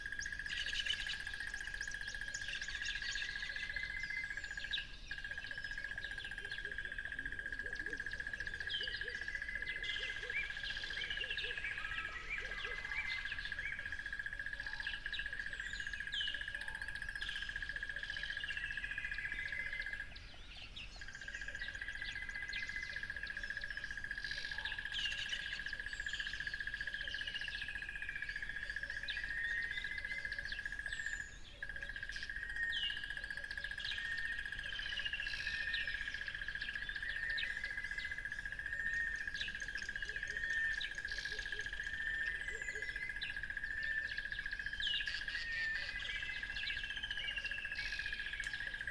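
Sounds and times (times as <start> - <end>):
birds chirping and singing: 0.2 - 16.5, 17.3 - 48.9.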